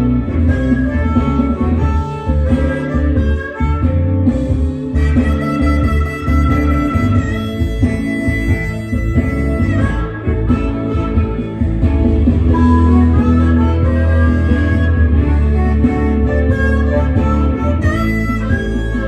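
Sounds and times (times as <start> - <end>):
blues harmonica: 0.0 - 19.0
guitar accompaniment: 0.0 - 19.0.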